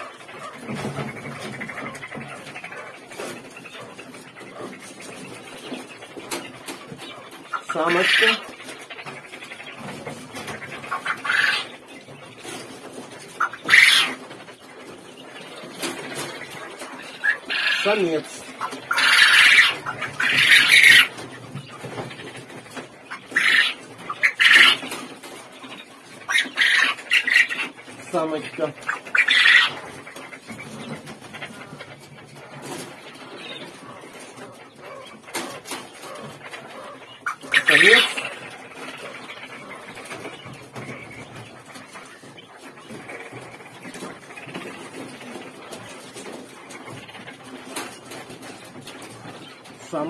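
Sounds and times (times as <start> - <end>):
quail calling: 0.0 - 50.0
rustling and clicking: 0.0 - 50.0.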